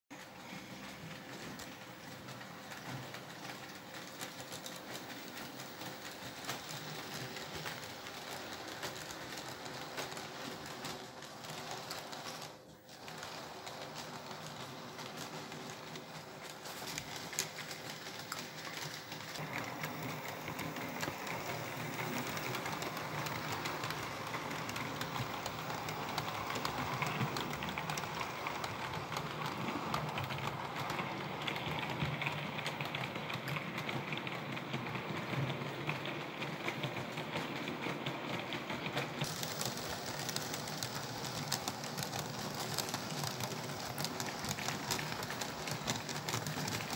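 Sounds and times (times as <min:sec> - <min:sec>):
model train whirring rattle: 0:00.2 - 0:46.9.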